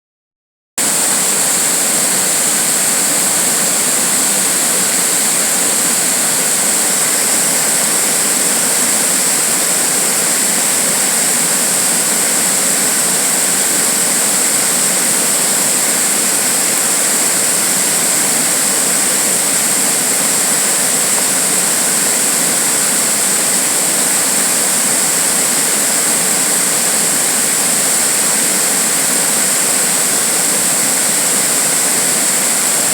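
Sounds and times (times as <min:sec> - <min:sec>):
rushing water: 0:00.8 - 0:32.9.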